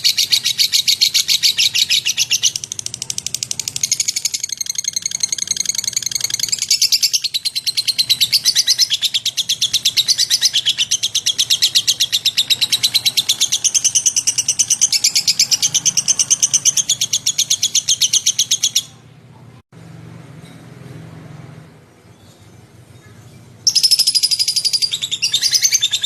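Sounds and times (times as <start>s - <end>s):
lovebird chirping rapidly: 0.0s - 19.0s, 22.1s - 26.0s.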